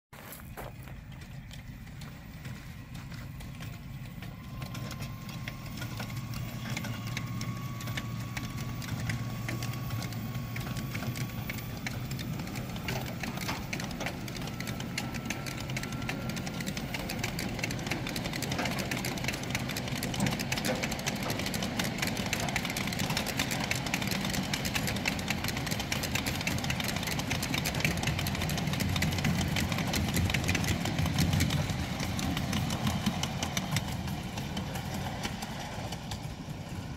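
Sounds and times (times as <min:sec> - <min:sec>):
train rumble: 0:00.2 - 0:36.9
wheels clicking on track: 0:00.2 - 0:36.9
motor whine: 0:00.7 - 0:36.9.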